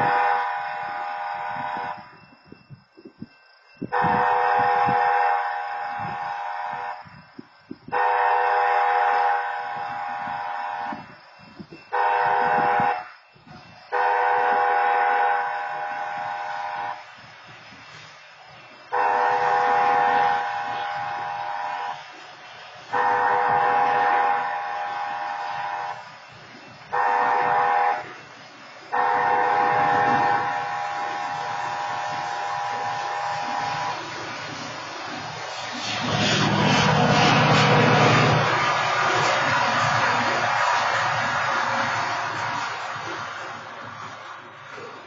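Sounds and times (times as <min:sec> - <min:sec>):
crossing horn blasting steady tones: 0:00.0 - 0:45.0
locomotive low rumble: 0:00.0 - 0:45.0.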